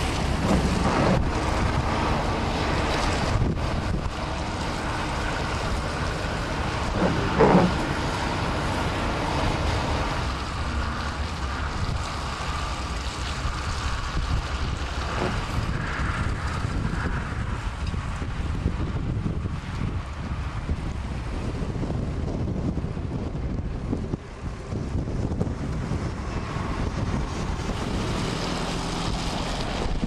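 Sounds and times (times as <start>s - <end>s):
blizzard wind buffeting microphone: 0.0s - 30.0s.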